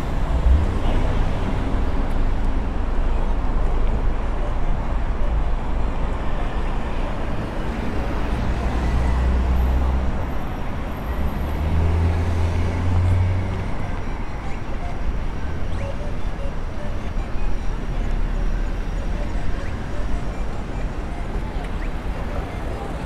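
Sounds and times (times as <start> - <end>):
car engines humming: 0.0 - 23.0
city street traffic: 0.0 - 23.0.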